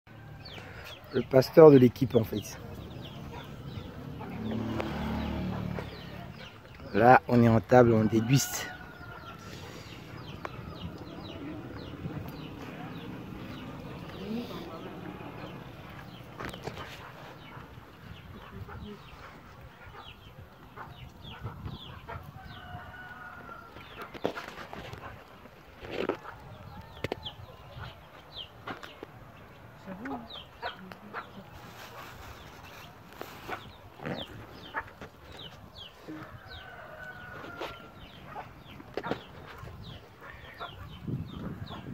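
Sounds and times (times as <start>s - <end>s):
birds chirping: 0.1s - 41.9s
chickens clucking: 0.4s - 41.9s.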